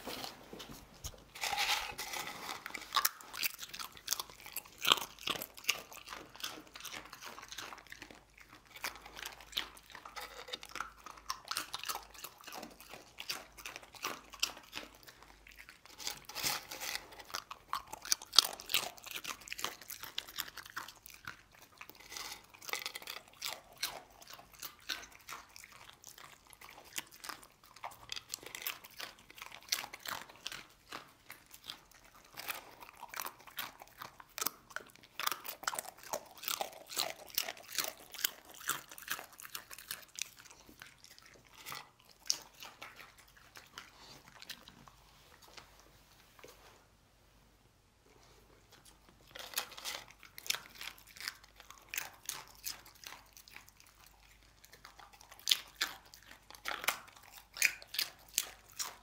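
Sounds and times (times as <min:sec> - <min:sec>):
dog crunching chips: 0:00.0 - 0:45.7, 0:48.7 - 0:59.0.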